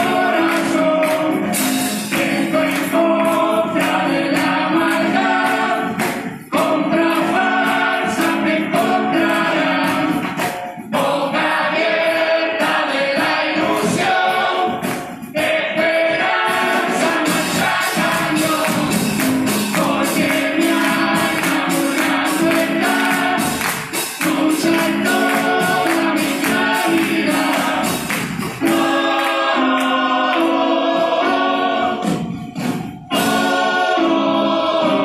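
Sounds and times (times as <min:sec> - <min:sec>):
choir singing in harmony: 0:00.0 - 0:35.0
percussion hits: 0:00.0 - 0:35.0.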